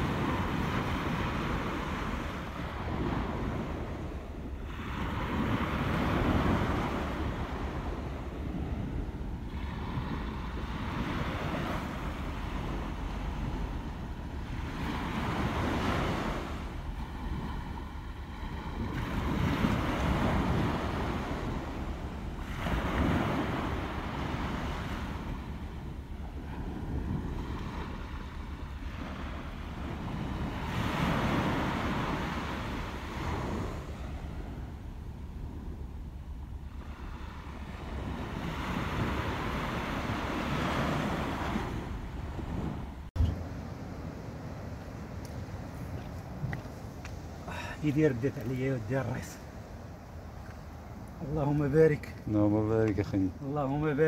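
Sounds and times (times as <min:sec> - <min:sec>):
surf washing against rocks: 0:00.0 - 0:54.0
wind buffeting microphone: 0:00.0 - 0:54.0.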